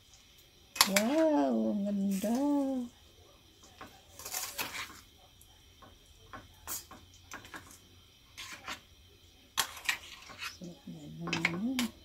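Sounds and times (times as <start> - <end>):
metal spoon stirring in saucepan: 0.7 - 12.0.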